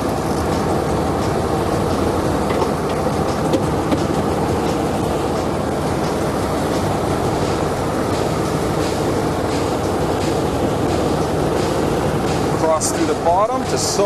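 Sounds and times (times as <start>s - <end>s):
boat engines droning: 0.0s - 14.0s.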